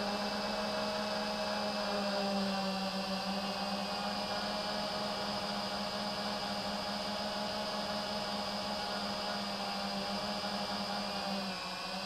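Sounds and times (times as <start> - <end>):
drone motors and propellers: 0.0 - 12.0.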